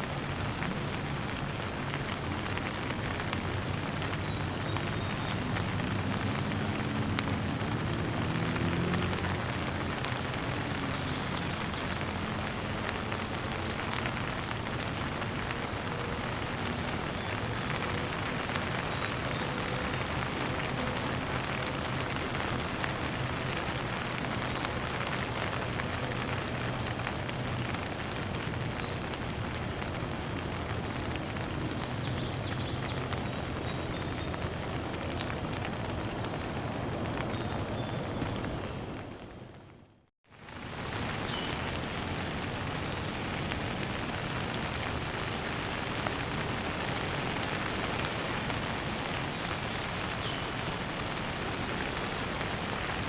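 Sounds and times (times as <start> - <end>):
raindrops pattering on a surface: 0.0 - 53.0
steady rain falling: 0.0 - 53.0.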